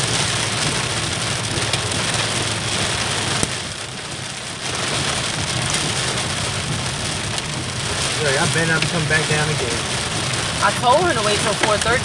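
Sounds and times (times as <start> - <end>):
car low hum: 0.0 - 12.0
heavy rain on a car: 0.0 - 12.0.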